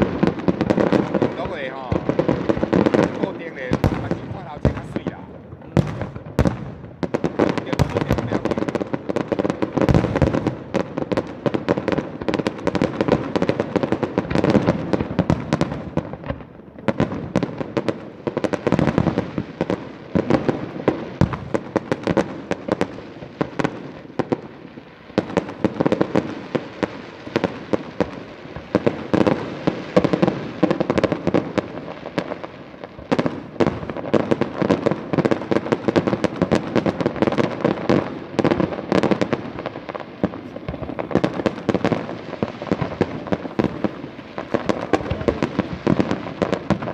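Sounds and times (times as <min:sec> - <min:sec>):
fireworks bursting and crackling: 0:00.0 - 0:46.9.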